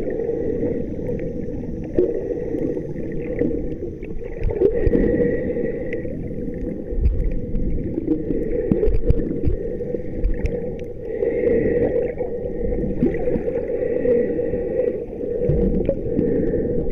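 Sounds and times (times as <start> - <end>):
water gurgling and sloshing: 0.0 - 16.9.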